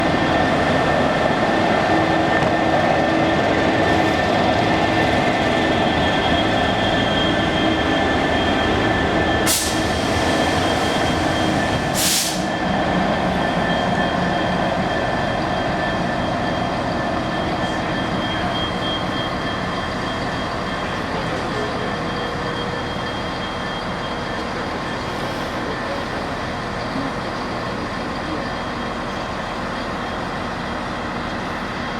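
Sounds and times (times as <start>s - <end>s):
diesel locomotive engine droning: 0.0s - 31.9s.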